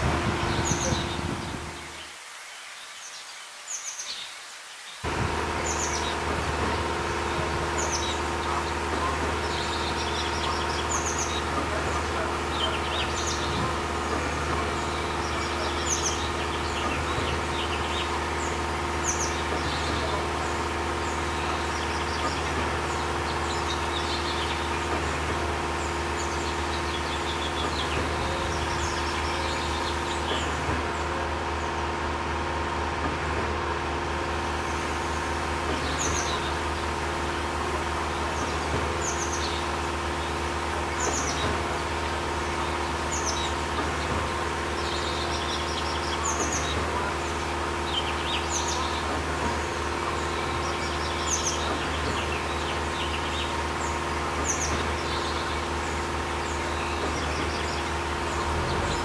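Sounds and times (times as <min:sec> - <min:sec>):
steady hum: 0:00.0 - 0:02.2, 0:05.0 - 0:59.0
small birds chirping: 0:00.0 - 0:59.0.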